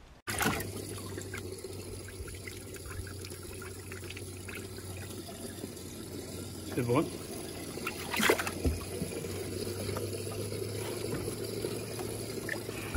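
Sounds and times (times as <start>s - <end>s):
water trickling and splashing: 0.2s - 12.9s
pump humming: 0.3s - 12.9s.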